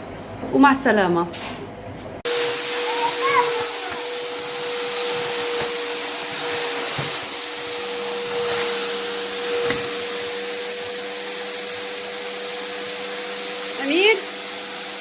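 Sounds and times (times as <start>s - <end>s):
vacuum cleaner running: 2.2s - 15.0s.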